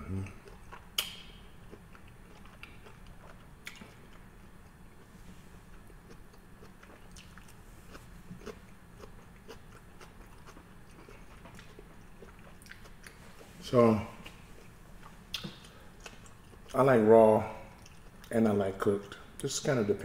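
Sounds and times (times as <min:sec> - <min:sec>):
person chewing wetly: 0:00.2 - 0:05.1, 0:05.7 - 0:13.5, 0:14.2 - 0:16.8, 0:17.7 - 0:18.4.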